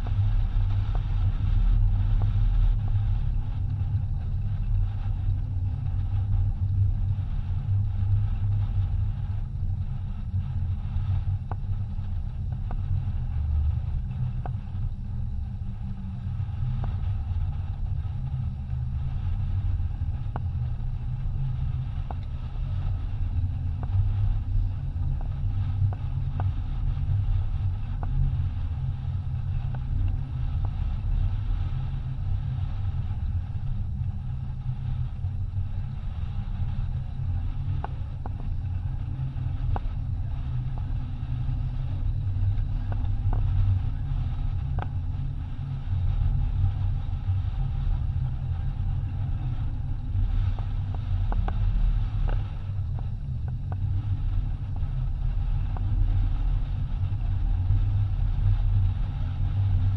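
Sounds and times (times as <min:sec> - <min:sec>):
faint ticks: 0:00.0 - 0:59.9
wind buffeting microphone: 0:00.0 - 0:59.9.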